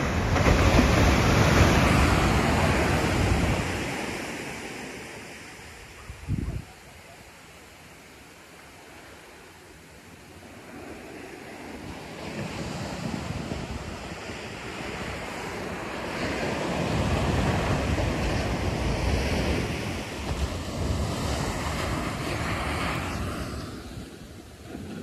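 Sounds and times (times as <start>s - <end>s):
wind buffeting microphone: 0.0s - 4.9s, 5.8s - 6.8s, 10.6s - 25.0s
ocean surf breaking on beach: 0.0s - 25.0s.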